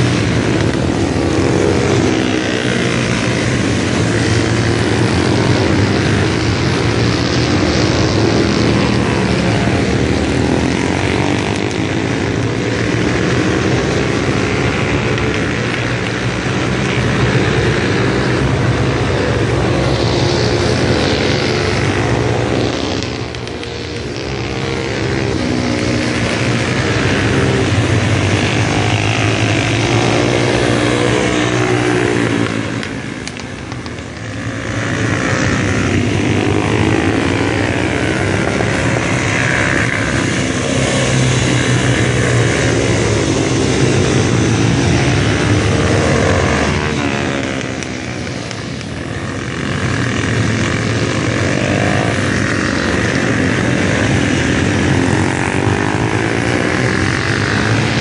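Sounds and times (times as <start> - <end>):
motorcycles racing at high revs: 0.0 - 58.0.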